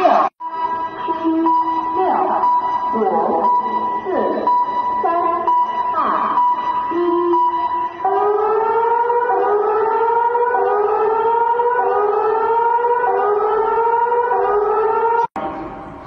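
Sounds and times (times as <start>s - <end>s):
alarm steady tone: 0.3s - 16.0s.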